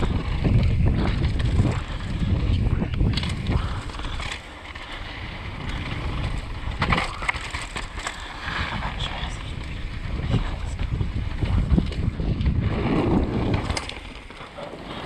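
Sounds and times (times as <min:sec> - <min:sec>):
bike rattling and knocking: 0:00.0 - 0:15.0
bike tyres rumbling on dirt: 0:00.0 - 0:15.0
wind buffeting microphone: 0:00.0 - 0:15.0.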